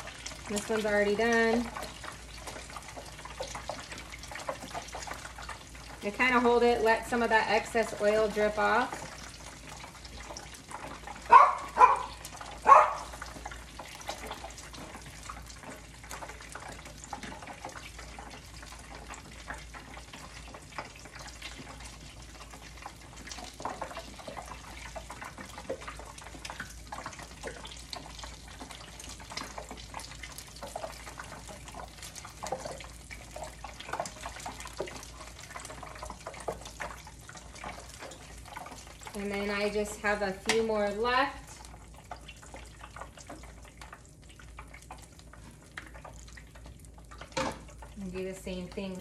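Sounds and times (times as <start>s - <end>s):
oil sizzling in frying pan: 0.0s - 49.0s.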